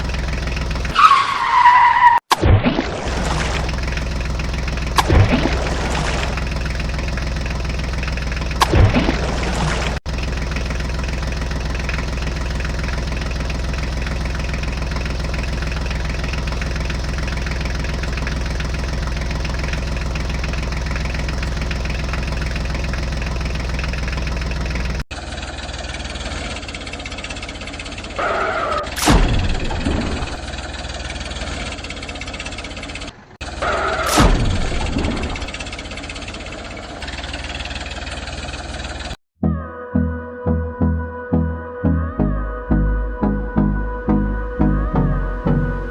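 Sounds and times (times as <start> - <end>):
engine with pitch sweep: 0.0 - 2.2, 3.0 - 39.2
tractor engine droning: 0.0 - 2.2, 3.0 - 39.2.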